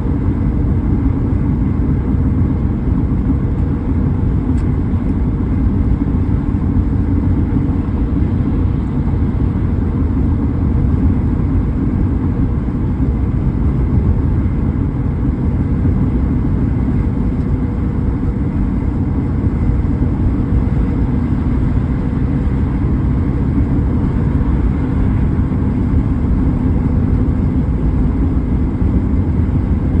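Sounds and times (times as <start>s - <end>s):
car engine rumble: 0.0s - 30.0s.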